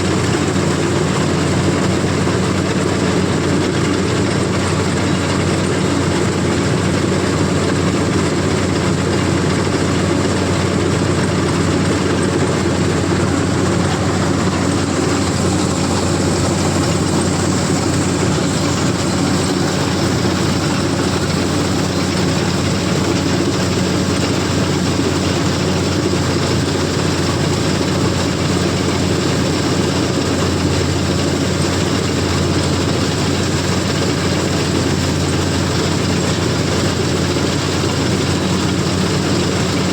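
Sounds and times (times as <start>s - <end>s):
combine harvester engine drone: 0.0s - 39.9s
machinery noise: 0.0s - 39.9s.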